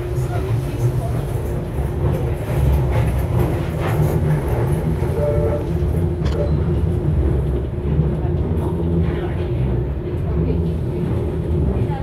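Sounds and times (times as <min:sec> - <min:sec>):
tram low rumble: 0:00.0 - 0:12.0.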